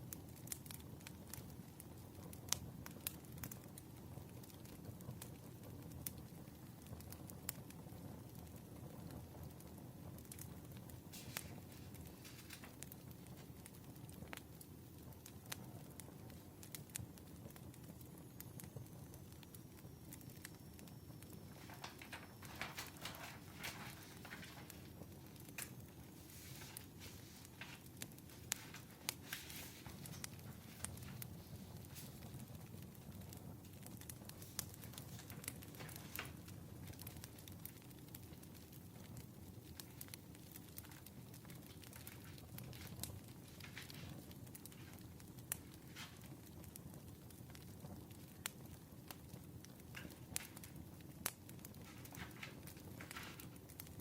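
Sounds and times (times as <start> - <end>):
fire popping and snapping: 0.0 - 54.0
wood fire crackling: 0.0 - 54.0.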